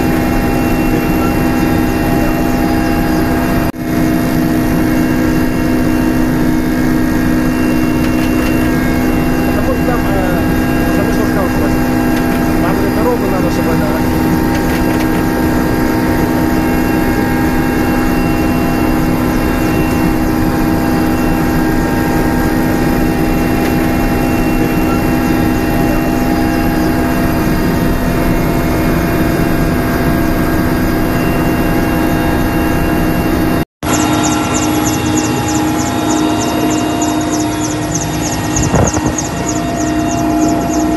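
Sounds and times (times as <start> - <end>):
constant low hums: 0.0 - 40.9
helicopter engine and rotor drone: 0.0 - 40.9.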